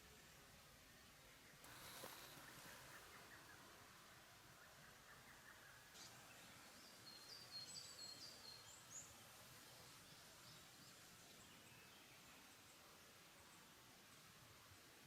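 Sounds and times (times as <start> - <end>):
forest background hiss: 0.0 - 15.0
songbird chirping: 0.0 - 15.0.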